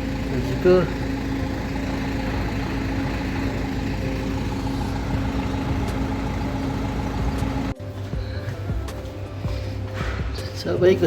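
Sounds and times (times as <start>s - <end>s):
low steady hum: 0.0s - 10.5s
vehicle engine idling: 0.0s - 11.0s.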